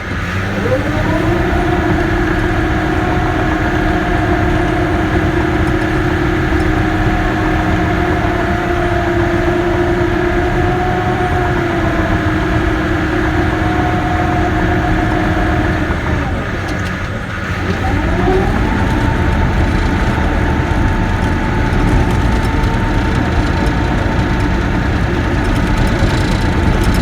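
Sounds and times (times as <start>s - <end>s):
bulldozer diesel engine whining: 0.0s - 27.0s.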